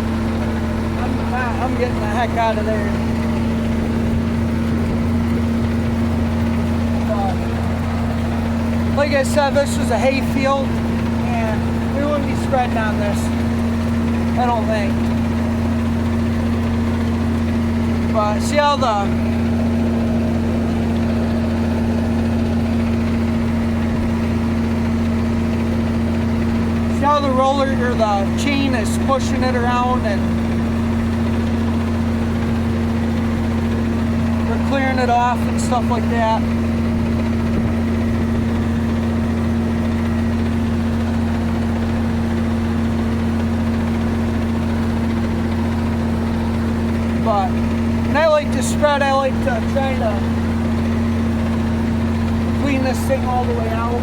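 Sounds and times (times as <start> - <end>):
manure spreader chain and beaters: 0.0 - 54.0
tractor diesel engine running: 0.0 - 54.0.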